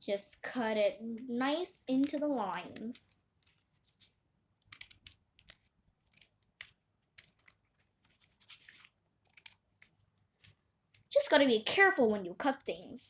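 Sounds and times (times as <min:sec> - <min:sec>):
scissors snipping paper: 0:00.4 - 0:13.0.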